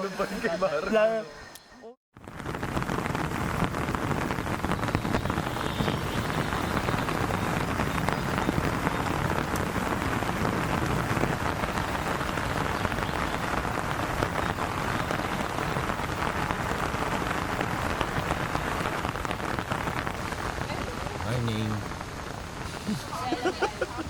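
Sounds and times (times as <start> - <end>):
steady rain falling: 2.2 - 24.0.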